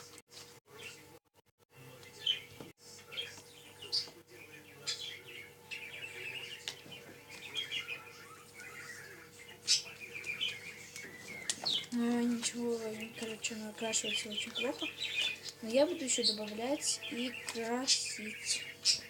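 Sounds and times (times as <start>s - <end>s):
small bird chirping: 2.0s - 19.0s.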